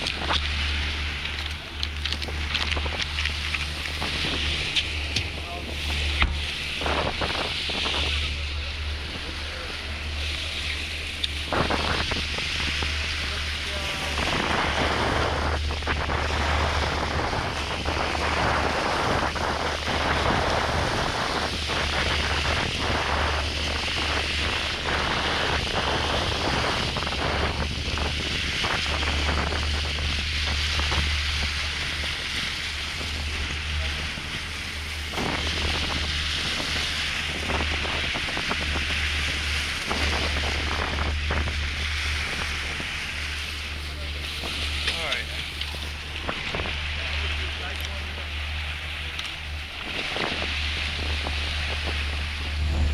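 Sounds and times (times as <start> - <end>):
boat engine drone: 0.0 - 52.9
water rushing past hull: 0.0 - 52.9
wind buffeting microphone: 0.0 - 52.9.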